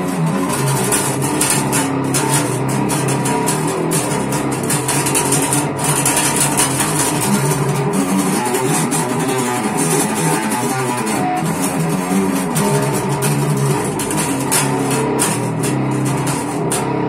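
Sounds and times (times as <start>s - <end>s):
electric bass guitar notes: 0.0s - 17.0s.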